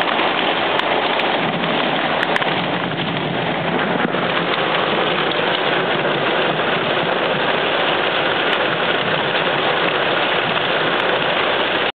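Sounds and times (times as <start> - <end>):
heavy rain on a car roof: 0.0 - 12.0.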